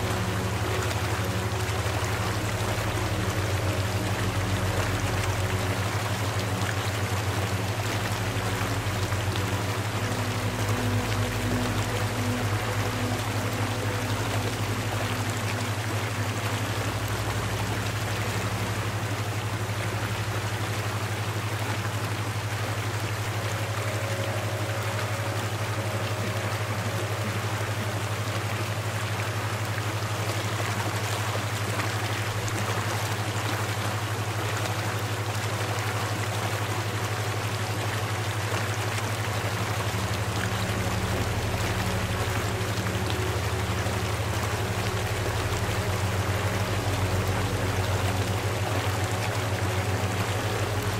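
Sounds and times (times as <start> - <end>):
low hum: 0.0 - 50.9
rushing water: 0.0 - 50.9.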